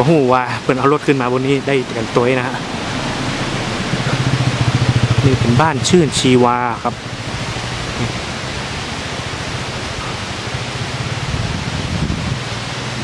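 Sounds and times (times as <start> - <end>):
low hum: 0.0 - 12.5
steady rushing hiss: 0.0 - 13.0.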